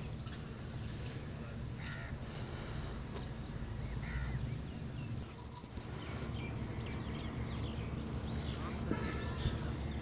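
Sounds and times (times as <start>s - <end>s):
birds calling: 0.0s - 10.0s.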